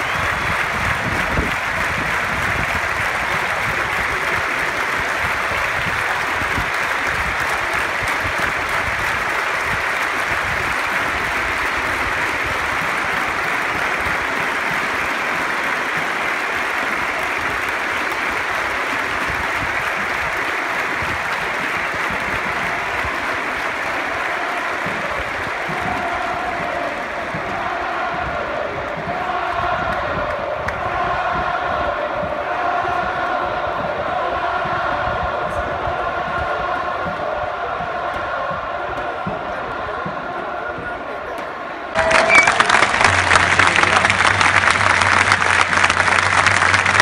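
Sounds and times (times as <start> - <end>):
stadium crowd applause: 0.0 - 47.0.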